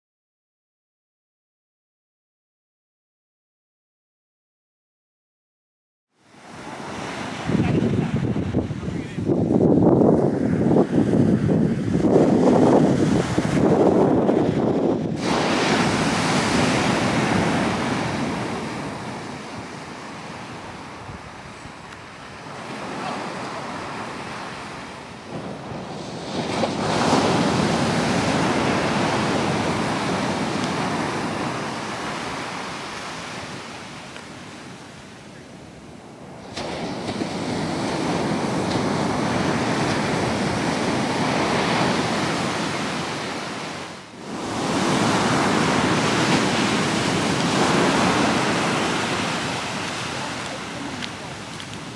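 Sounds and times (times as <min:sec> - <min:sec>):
surf breaking on a beach: 0:06.2 - 0:51.9.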